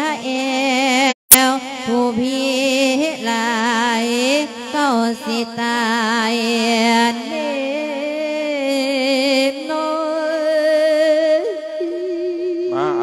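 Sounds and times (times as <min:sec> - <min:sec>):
person chanting with vibrato: 0:01.6 - 0:09.9, 0:10.6 - 0:13.0.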